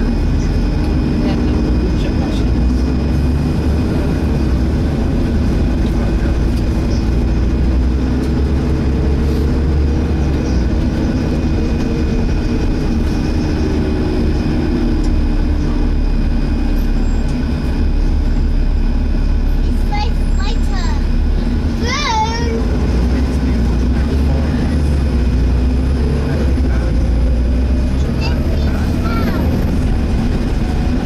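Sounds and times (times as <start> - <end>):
diesel bus engine rumbling: 0.0 - 31.0.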